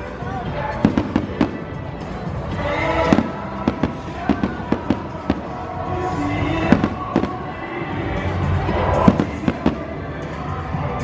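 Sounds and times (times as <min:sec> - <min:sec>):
fireworks bursting with bangs and crackles: 0:00.6 - 0:10.3.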